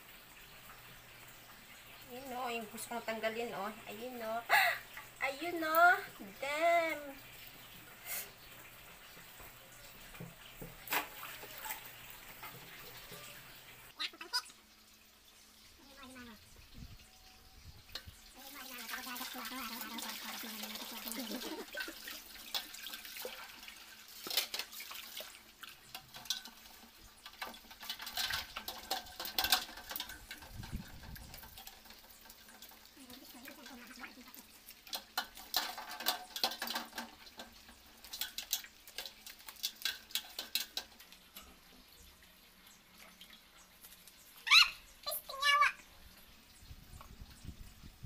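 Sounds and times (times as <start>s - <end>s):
tap water running into basin: 0.0s - 48.0s
water splashing: 1.0s - 15.1s, 17.9s - 47.6s.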